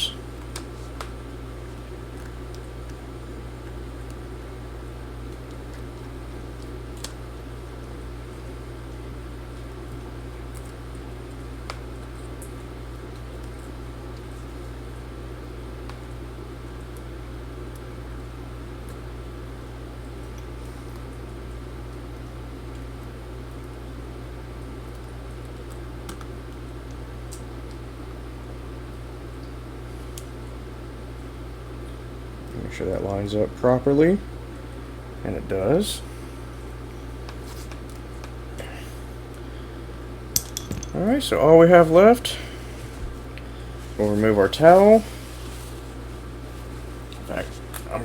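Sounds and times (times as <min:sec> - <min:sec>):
low room hum: 0:00.0 - 0:48.0.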